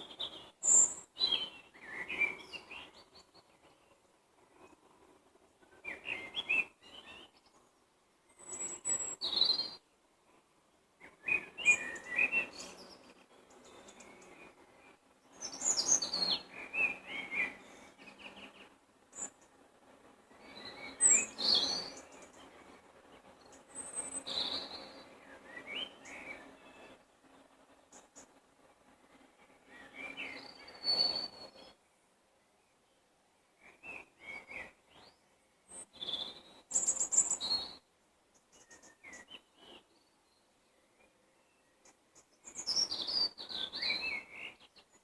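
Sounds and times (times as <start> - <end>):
songbirds chirping and whistling: 0.0 - 10.4, 11.0 - 28.4, 29.0 - 33.0, 33.6 - 45.0.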